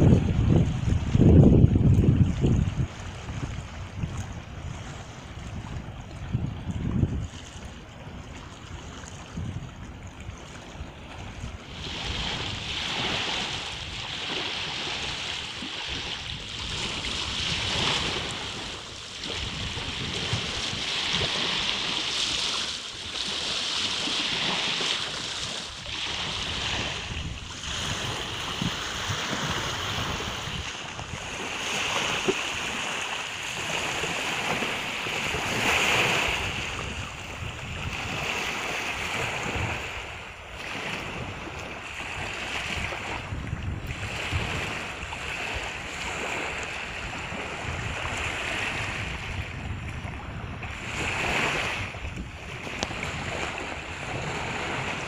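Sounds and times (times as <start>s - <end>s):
small waves breaking on shore: 0.0s - 55.0s
wind rumble on microphone: 0.0s - 55.0s.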